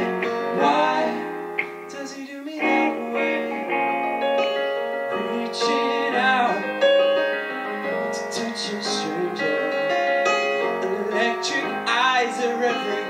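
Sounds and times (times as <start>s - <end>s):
man singing: 0.0s - 4.2s, 5.1s - 6.9s, 8.0s - 13.0s
electric piano chords: 0.0s - 13.0s.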